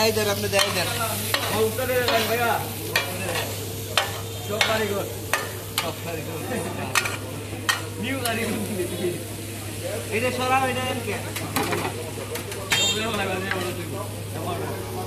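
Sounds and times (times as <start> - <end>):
chicken sizzling: 0.0 - 15.0.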